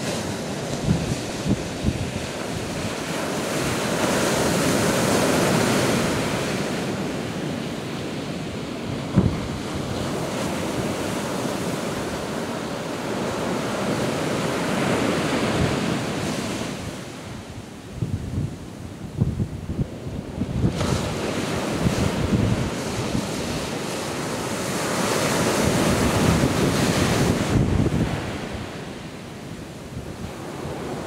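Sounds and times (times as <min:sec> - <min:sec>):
sea waves breaking on beach: 0:00.0 - 0:31.0
wind buffeting microphone: 0:00.0 - 0:31.0.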